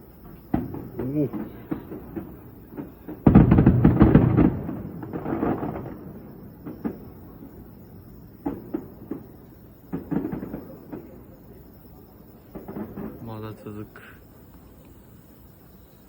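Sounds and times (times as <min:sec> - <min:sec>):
fireworks booming: 0:00.0 - 0:16.0
sharp firework bangs: 0:00.2 - 0:14.1.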